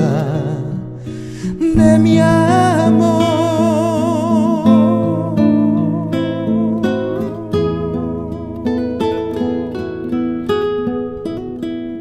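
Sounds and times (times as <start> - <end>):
acoustic guitar plucked chords: 0.0 - 12.0.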